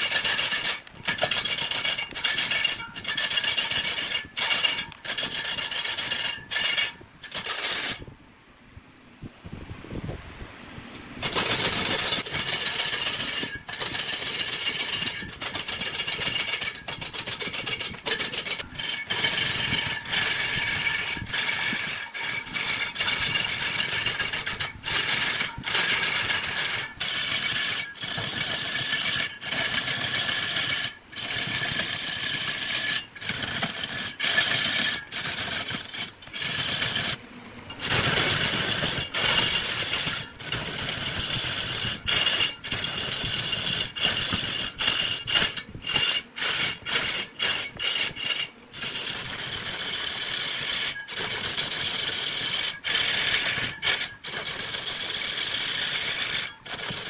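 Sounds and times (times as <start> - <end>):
lathe tool scraping wood: 0.0 - 8.0, 11.2 - 57.0.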